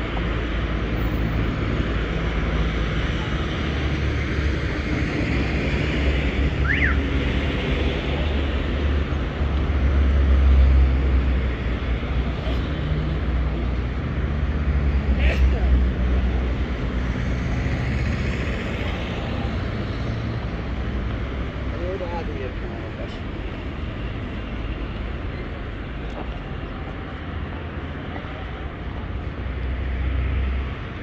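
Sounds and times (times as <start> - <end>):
deep traffic rumble: 0.0 - 31.0
vehicle engines and tyre noise: 0.0 - 31.0.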